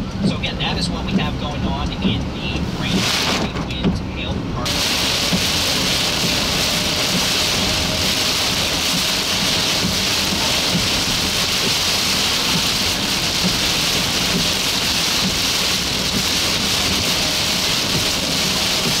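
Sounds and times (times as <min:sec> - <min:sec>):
heavy rain on car roof: 0:00.0 - 0:19.0.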